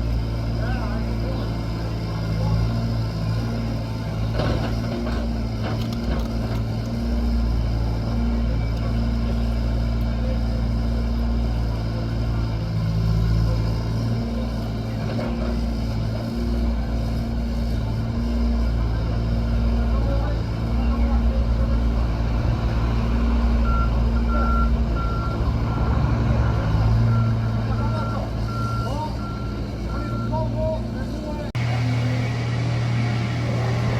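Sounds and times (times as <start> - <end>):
construction machine engine running: 0.0 - 33.9.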